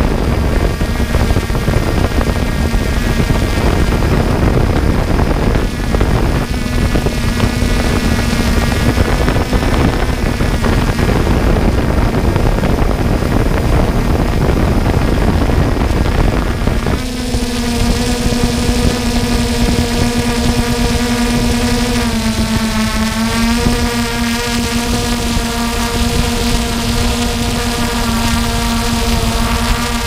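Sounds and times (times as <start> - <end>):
drone propellers humming: 0.0 - 30.0
wind noise on microphone: 0.0 - 30.0.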